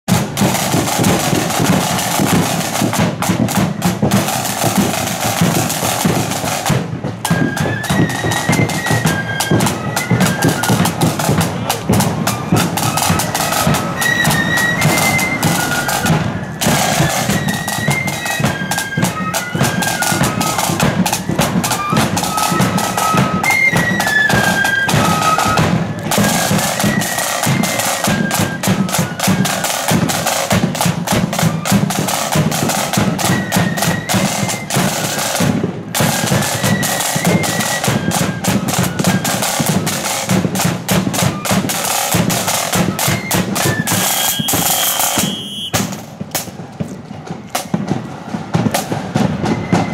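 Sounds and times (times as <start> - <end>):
rapid snare drumming: 0.1 - 49.9
flutes playing high melody: 0.2 - 46.0, 47.2 - 49.9.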